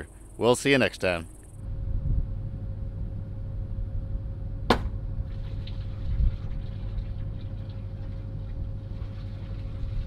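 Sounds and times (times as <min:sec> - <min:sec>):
faint even whine: 0:00.0 - 0:10.0
low engine rumble: 0:00.0 - 0:10.0.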